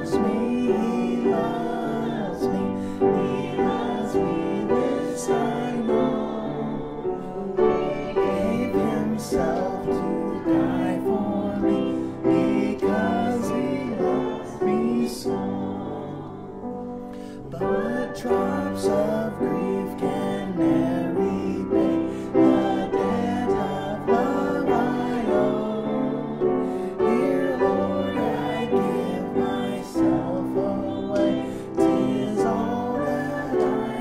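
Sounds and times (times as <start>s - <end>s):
piano accompaniment: 0.0s - 34.0s
voices singing a hymn: 0.0s - 34.0s.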